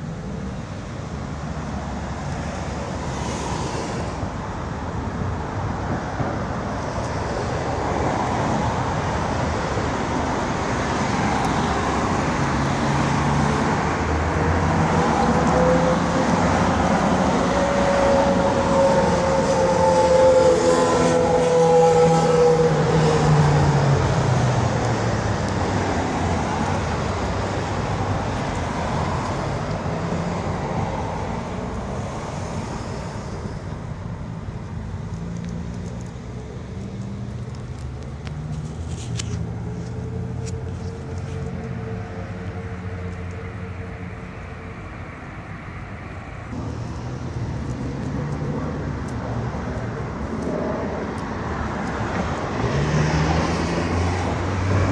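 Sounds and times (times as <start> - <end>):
cars driving past: 0.0 - 54.9.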